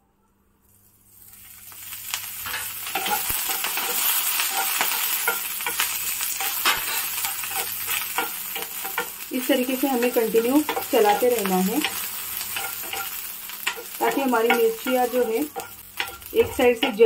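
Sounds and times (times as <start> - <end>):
chillies sizzling in frying pan: 0.7 - 17.0.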